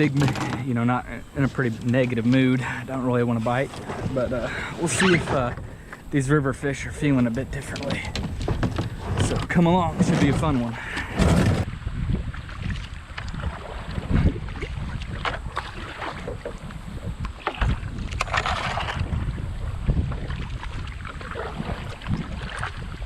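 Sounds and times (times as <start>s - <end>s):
paddle splashes: 0.0s - 6.3s, 6.9s - 23.0s
wind rumbling on microphone: 0.0s - 23.0s.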